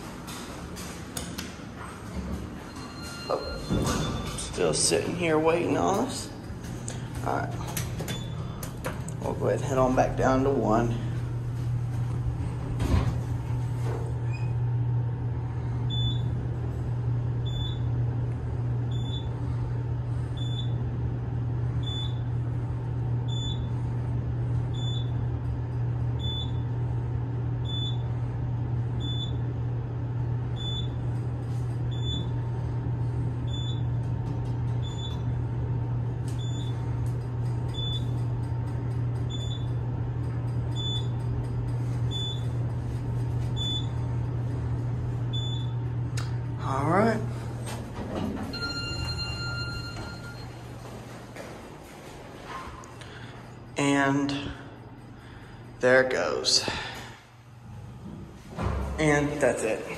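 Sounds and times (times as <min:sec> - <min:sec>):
elevator hum: 0:00.0 - 0:59.9.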